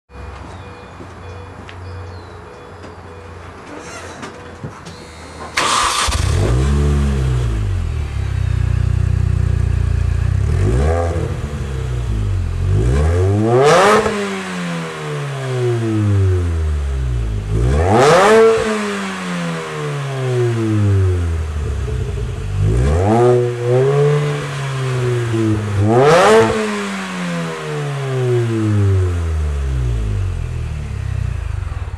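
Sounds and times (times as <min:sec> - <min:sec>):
car engine idling and revving: 0:05.1 - 0:31.9.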